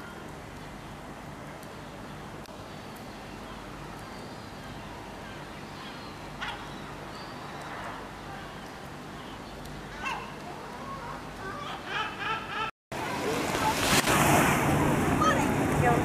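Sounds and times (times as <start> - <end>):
outdoor town hum: 0.0 - 16.0.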